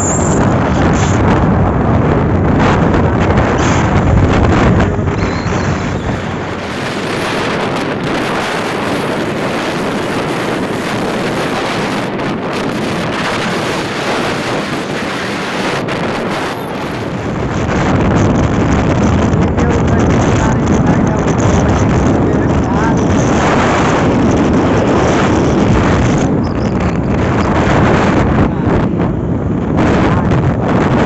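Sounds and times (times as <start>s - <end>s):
motorcycle running: 0.0s - 31.0s
wind rushing over microphone: 0.0s - 31.0s.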